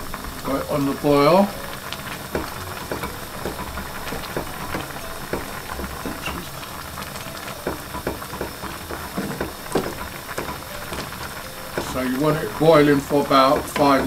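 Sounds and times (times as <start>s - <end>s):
vegetables boiling in a saucepan: 0.0s - 14.0s
wooden spoon stirring: 0.1s - 14.0s.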